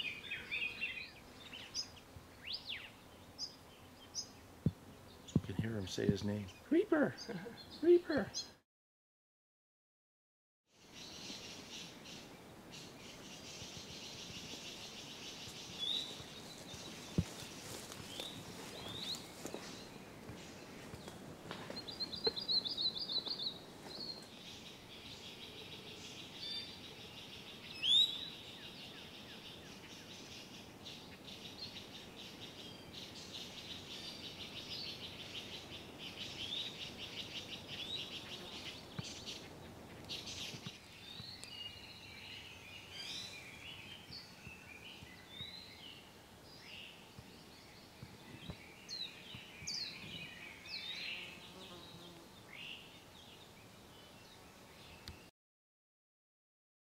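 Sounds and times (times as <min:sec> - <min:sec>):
songbirds singing: 0:00.0 - 0:08.6, 0:10.8 - 0:55.3.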